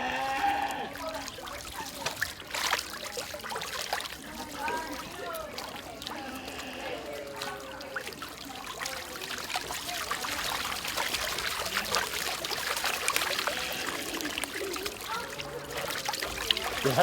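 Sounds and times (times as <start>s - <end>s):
water splashing and spraying: 0.0s - 17.0s.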